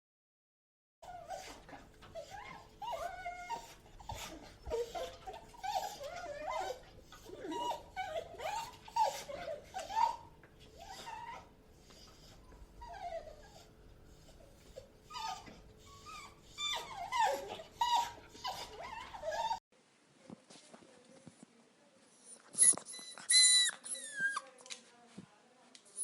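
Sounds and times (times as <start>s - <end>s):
dog whining: 1.0s - 19.6s, 22.2s - 24.6s.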